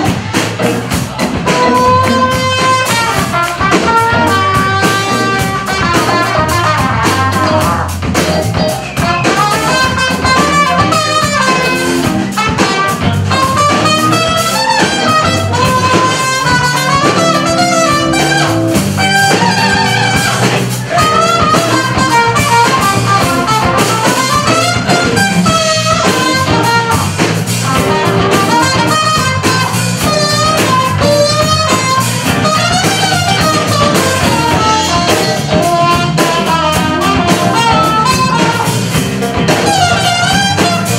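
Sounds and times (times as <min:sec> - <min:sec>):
blues band playing: 0:00.0 - 0:40.9.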